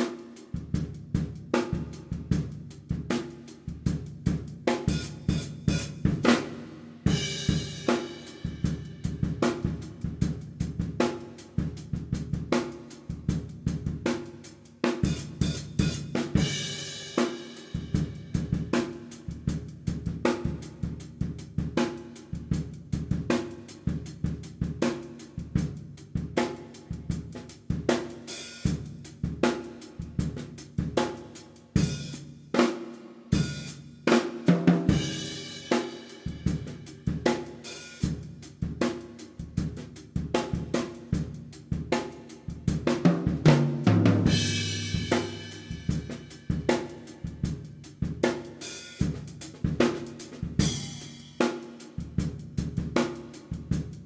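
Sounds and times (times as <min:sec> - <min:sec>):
drum kit beat: 0:00.0 - 0:54.0.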